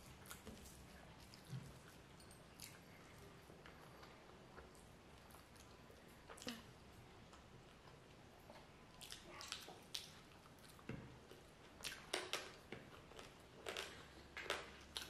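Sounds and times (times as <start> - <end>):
faint room hum: 0.0 - 15.0
person chewing noodles: 0.0 - 15.0.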